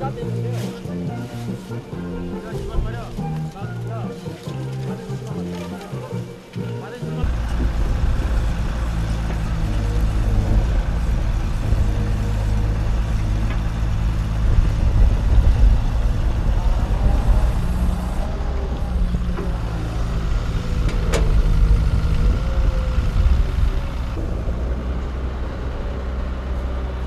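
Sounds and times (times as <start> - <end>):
large engine rumbling: 0.0 - 27.0.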